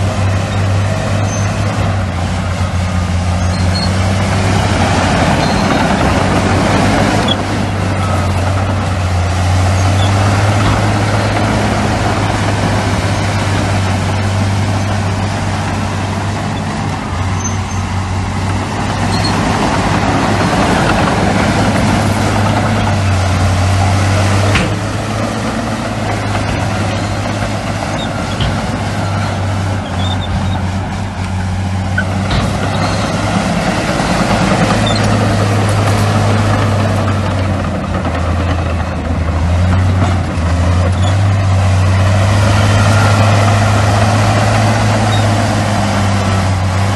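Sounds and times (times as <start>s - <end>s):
heavy diesel machinery engine drone: 0.0s - 46.9s
machines working: 0.0s - 46.9s.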